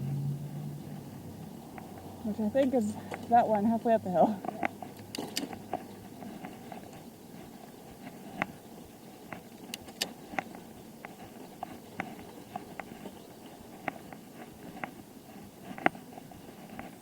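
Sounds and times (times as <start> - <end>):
bicycle tyre road noise: 0.0 - 17.0
bicycle clicks and ticks: 1.0 - 16.0.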